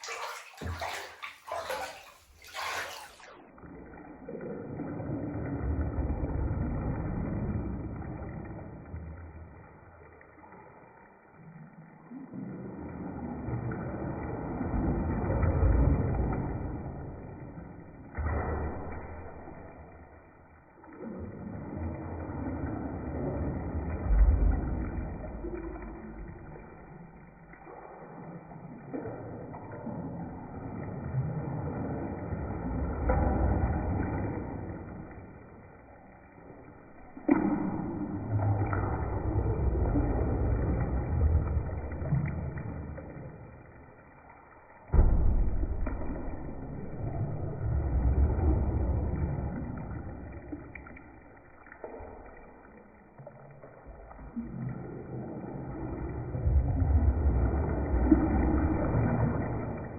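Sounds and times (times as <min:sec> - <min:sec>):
bathwater sloshing: 0:00.0 - 0:10.6, 0:12.0 - 0:59.9.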